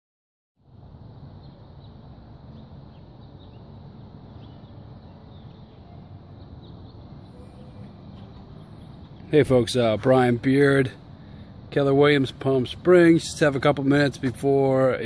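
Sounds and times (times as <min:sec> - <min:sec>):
small birds chirping: 0:01.2 - 0:13.2.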